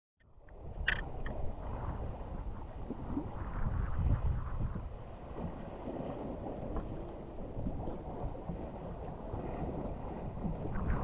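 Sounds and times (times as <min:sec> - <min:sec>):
wind buffeting microphone: 0:00.3 - 0:11.0
water rushing along boat hull: 0:00.6 - 0:11.0.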